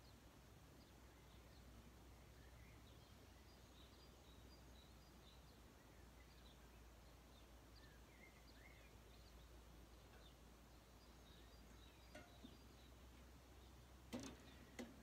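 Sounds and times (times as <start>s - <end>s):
faint distant birdsong: 0.0s - 15.0s.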